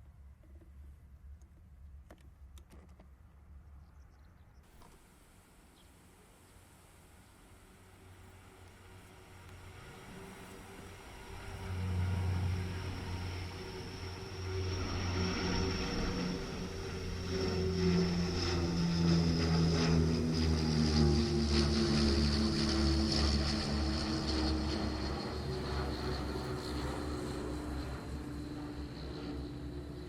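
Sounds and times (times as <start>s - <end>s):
low propeller drone: 0.0s - 30.0s
turbine whine: 4.7s - 30.0s.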